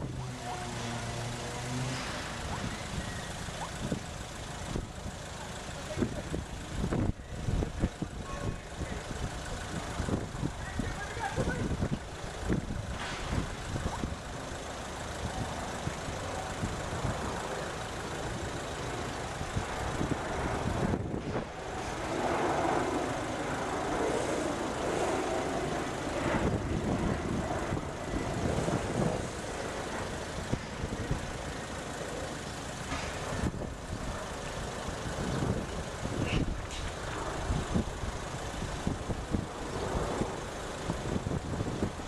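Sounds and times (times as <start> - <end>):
outdoor low rumble: 0.0 - 42.0.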